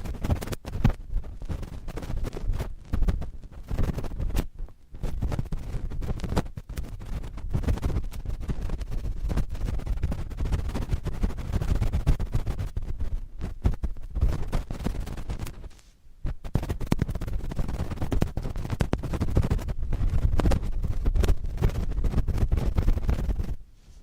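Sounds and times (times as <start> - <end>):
cotton swabs scratching microphone: 0.0 - 24.0.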